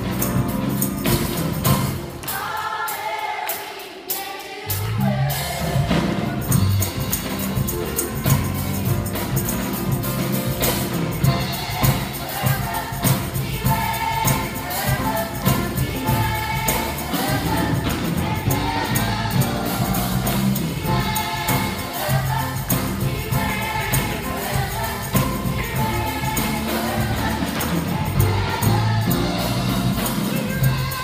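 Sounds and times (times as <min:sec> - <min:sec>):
band accompaniment: 0:00.0 - 0:31.0
choir singing gospel song: 0:00.0 - 0:31.0
drum or tambourine beat: 0:00.0 - 0:31.0.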